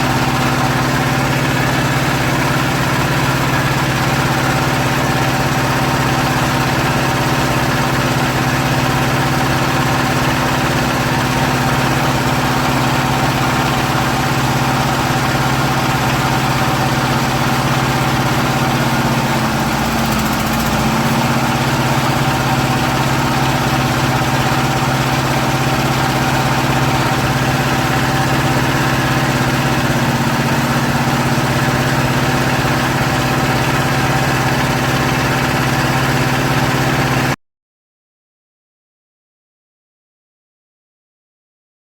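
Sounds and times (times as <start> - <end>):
hydraulic pump motor humming: 0.0 - 37.2.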